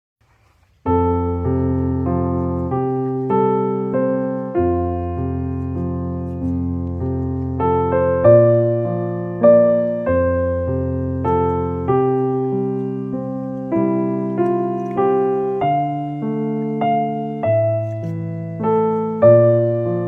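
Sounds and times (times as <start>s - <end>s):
gentle piano melody: 0.5s - 20.0s.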